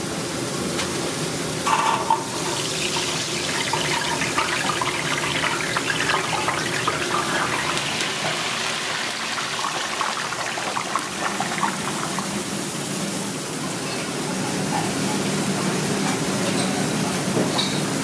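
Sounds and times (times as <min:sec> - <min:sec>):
low kitchen hum: 0:00.0 - 0:18.0
oil sizzling in deep fryer: 0:00.1 - 0:16.3.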